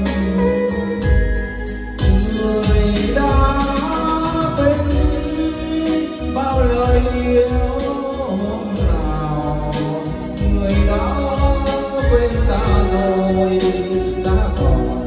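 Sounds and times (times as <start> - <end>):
karaoke ballad over loudspeakers: 0.0 - 15.0.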